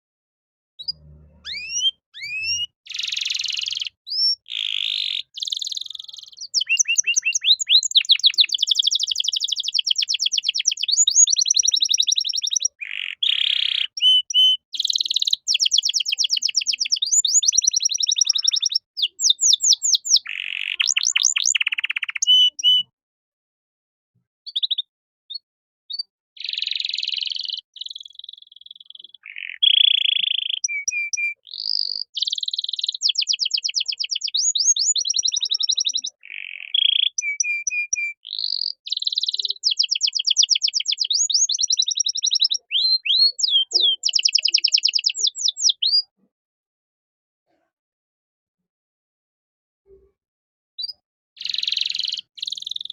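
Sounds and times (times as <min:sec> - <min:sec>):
canary singing trills: 0:00.8 - 0:22.9, 0:24.5 - 0:46.3, 0:50.8 - 0:52.9.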